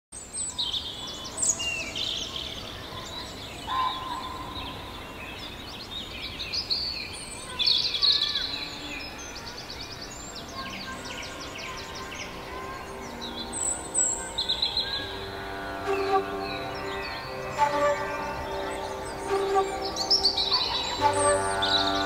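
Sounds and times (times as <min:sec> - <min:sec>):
small birds chirping: 0:00.2 - 0:22.0.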